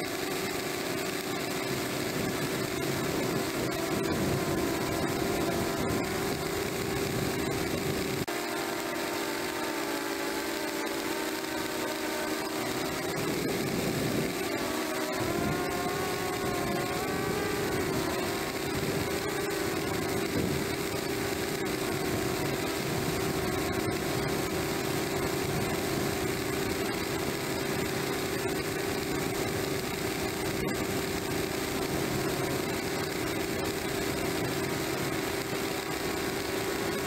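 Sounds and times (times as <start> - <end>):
drone motors whining: 0.0 - 37.0.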